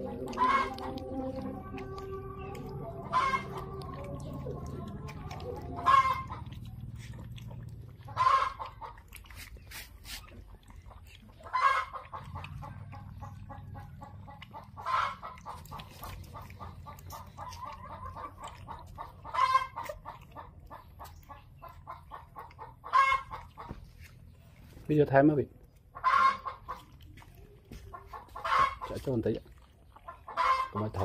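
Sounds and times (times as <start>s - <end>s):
chicken clucking: 0.0s - 24.8s, 25.7s - 31.0s.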